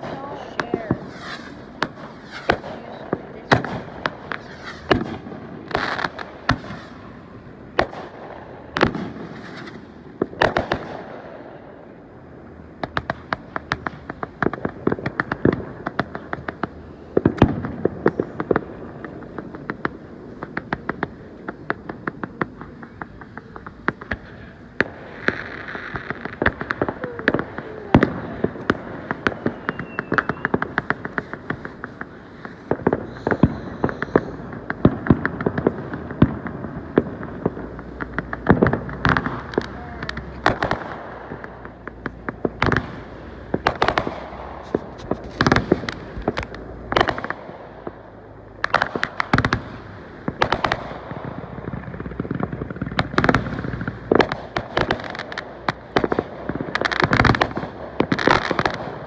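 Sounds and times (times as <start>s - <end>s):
fireworks bangs and booms: 0.0s - 59.0s
fireworks crackling: 0.0s - 59.0s.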